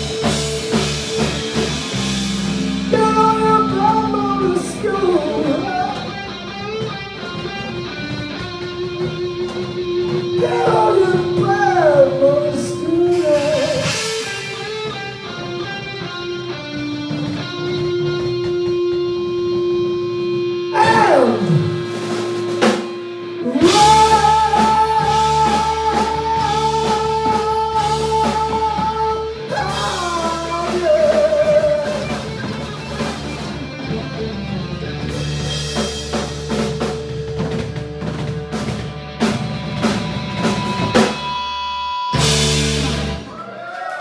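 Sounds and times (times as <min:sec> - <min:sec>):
electric guitar bending notes: 0:00.0 - 0:43.4
bass guitar: 0:00.0 - 0:43.7
drums: 0:00.0 - 0:44.0.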